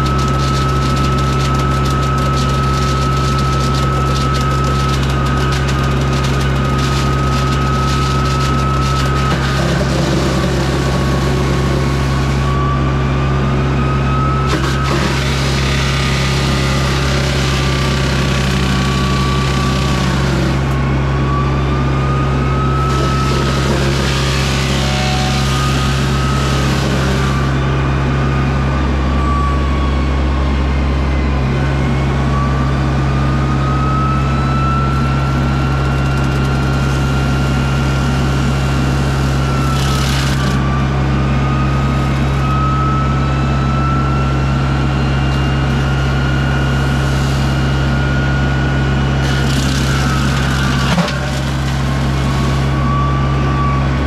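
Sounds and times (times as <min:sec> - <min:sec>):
excavator engine running: 0:00.0 - 0:54.0
mulcher head whining: 0:00.0 - 0:54.0.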